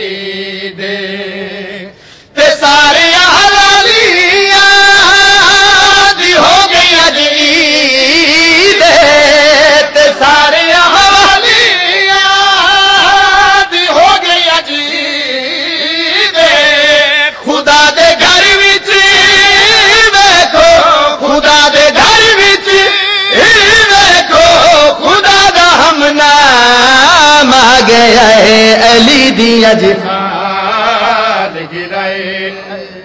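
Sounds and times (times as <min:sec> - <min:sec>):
man singing into a microphone: 0:00.0 - 0:33.0.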